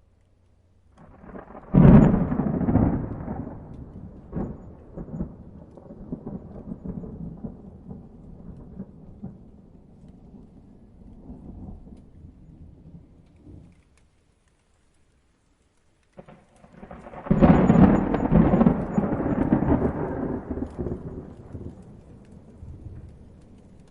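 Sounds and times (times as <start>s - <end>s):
thunderclap: 1.0s - 13.8s, 16.2s - 23.9s.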